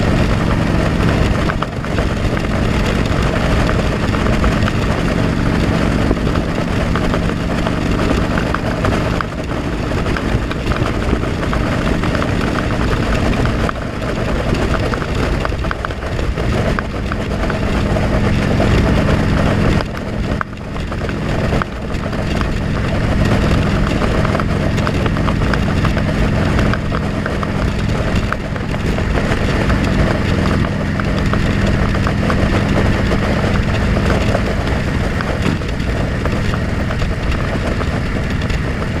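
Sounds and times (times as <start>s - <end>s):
motorcycle engine running: 0.0s - 39.0s
rushing wind noise: 0.0s - 39.0s.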